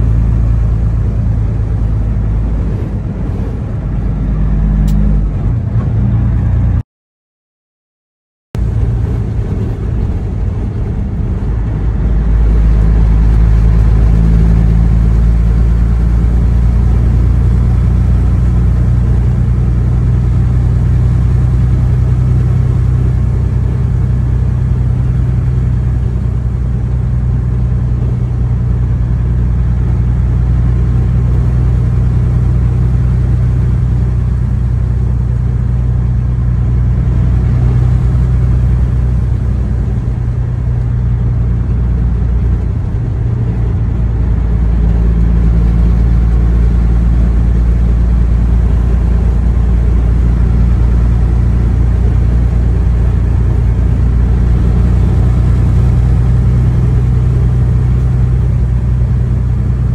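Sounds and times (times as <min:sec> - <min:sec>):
road noise: 0:00.0 - 0:06.8, 0:08.6 - 0:59.9
truck engine drone: 0:00.0 - 0:06.8, 0:08.6 - 0:59.9.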